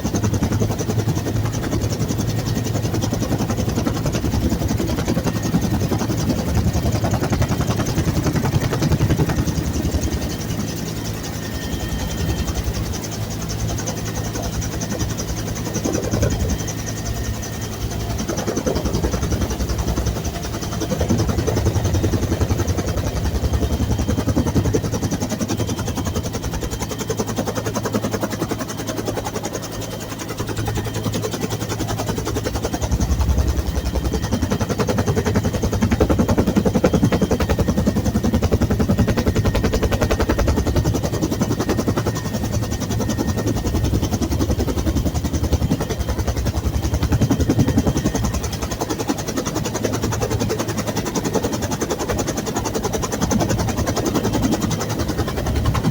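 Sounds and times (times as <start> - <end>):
helicopter rotor thudding: 0.0 - 55.9.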